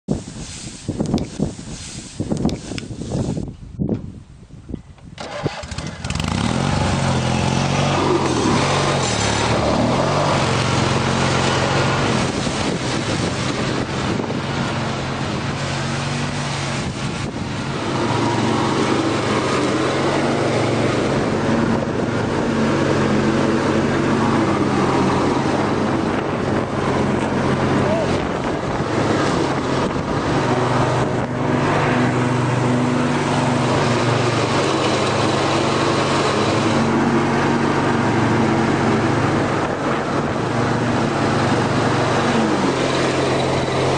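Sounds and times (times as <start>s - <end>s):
lawn tractor mowing: 5.1s - 43.9s.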